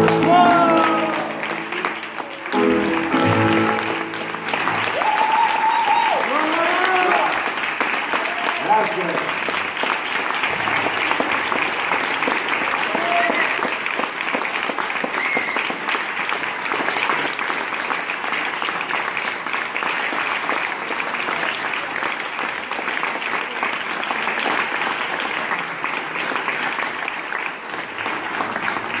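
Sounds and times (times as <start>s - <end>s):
audience applauding: 0.0s - 29.0s.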